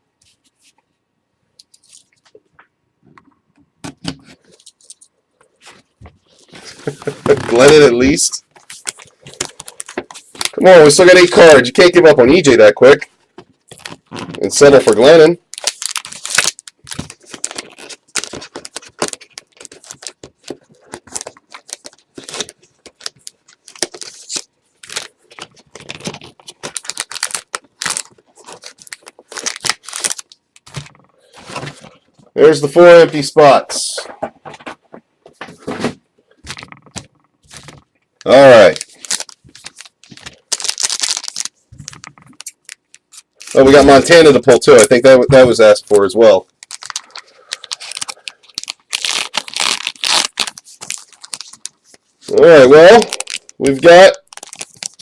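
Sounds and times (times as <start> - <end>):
trading cards rustling and clicking: 4.2 - 11.6, 13.7 - 31.9, 36.4 - 55.0.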